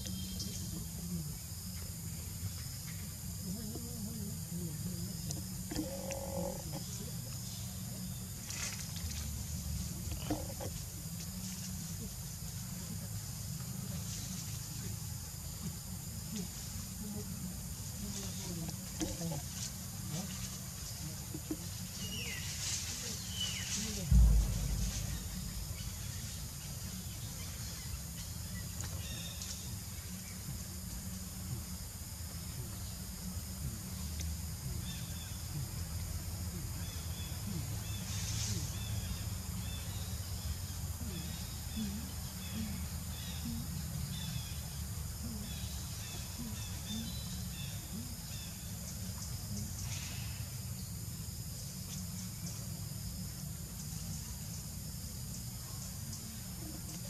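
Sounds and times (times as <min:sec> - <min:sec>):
steady low rumble: 0:06.6 - 0:57.0.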